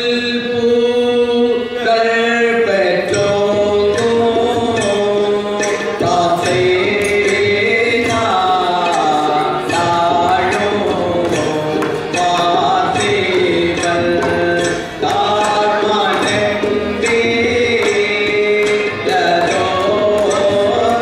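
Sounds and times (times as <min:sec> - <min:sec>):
person singing chant-like melody: 0:00.0 - 0:21.0
sharp percussive strikes: 0:02.6 - 0:21.0.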